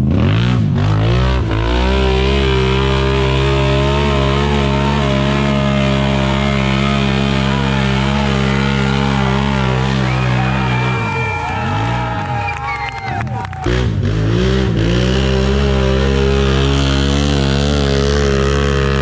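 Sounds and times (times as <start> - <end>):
atv engine at full throttle: 0.0 - 19.0.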